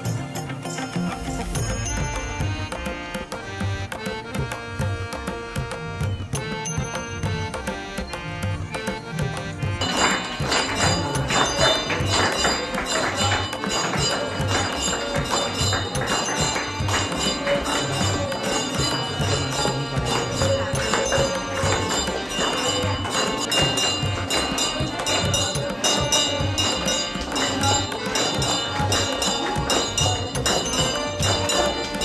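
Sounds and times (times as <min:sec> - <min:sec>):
devotional music: 0:00.0 - 0:32.0
jingling percussion: 0:00.0 - 0:32.0.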